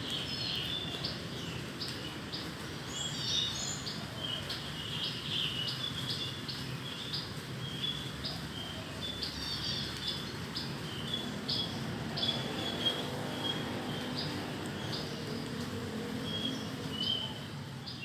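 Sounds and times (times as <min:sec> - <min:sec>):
rain falling: 0:00.0 - 0:18.0
songbird chirping: 0:00.0 - 0:18.0.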